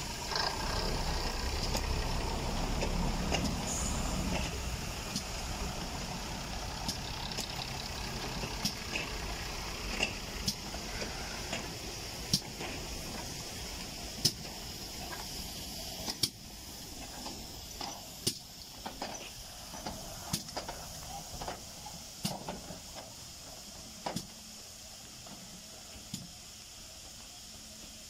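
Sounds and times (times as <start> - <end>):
steam hissing: 0.0 - 28.0.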